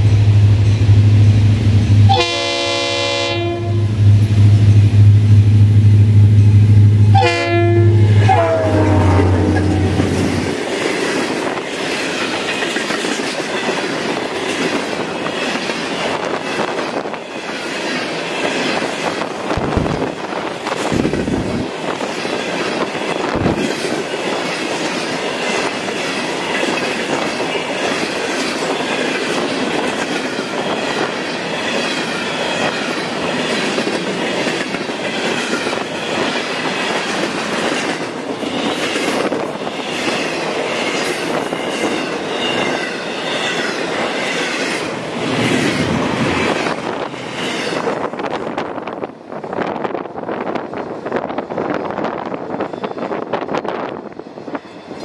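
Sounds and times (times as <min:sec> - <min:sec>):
wheels squealing on rails: 0:06.5 - 0:48.9, 0:51.6 - 0:55.0
train wheels clicking over rail joints: 0:09.5 - 0:55.0.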